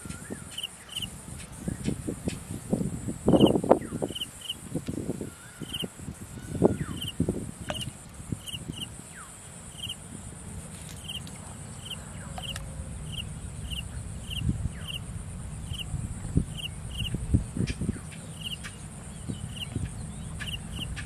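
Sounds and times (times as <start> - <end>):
high-pitched insect hum: 0.0 - 21.0
low wind rumble: 0.0 - 21.0.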